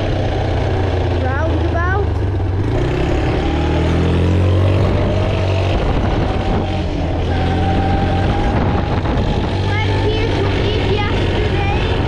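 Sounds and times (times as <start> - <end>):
vehicle engine speeding up: 0.0 - 12.0.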